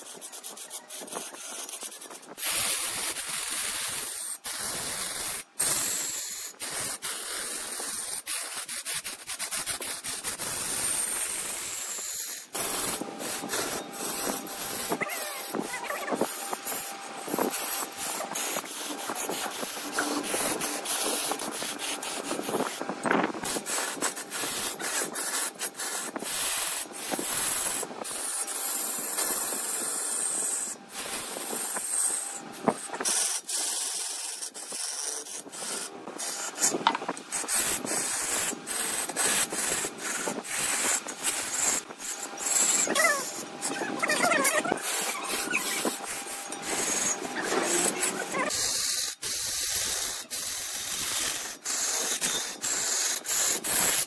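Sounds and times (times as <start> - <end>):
wood lathe scraping hiss: 0.0 - 54.0.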